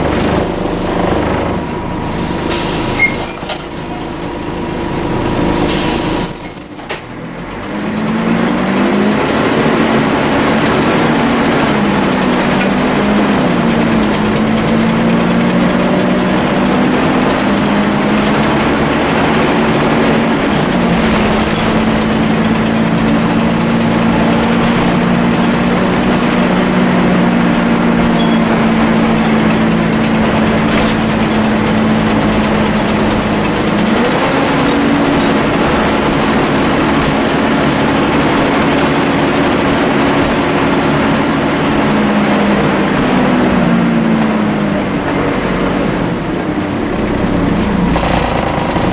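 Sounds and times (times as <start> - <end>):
bus diesel engine running: 0.0 - 48.9
engine whine: 0.0 - 48.9.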